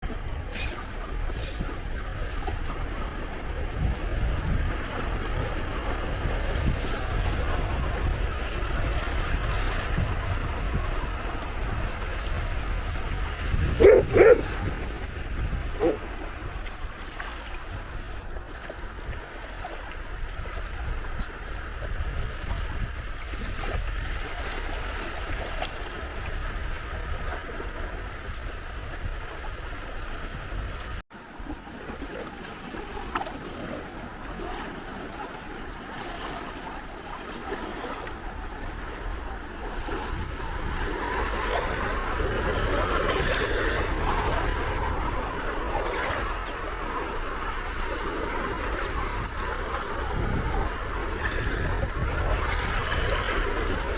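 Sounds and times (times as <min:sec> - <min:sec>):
sea waves washing on shore: 0:00.0 - 0:53.9.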